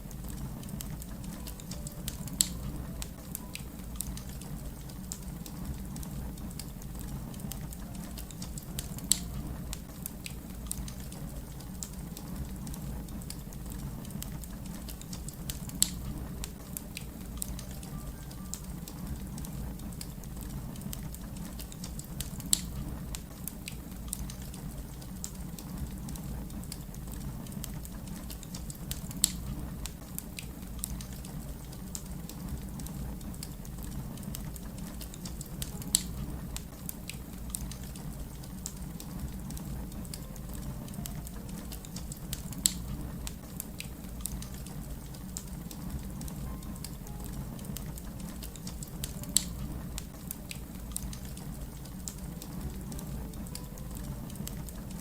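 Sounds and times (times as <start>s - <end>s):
fire crackling: 0.0s - 55.0s
sharp fire pops: 0.2s - 17.7s, 19.3s - 46.6s.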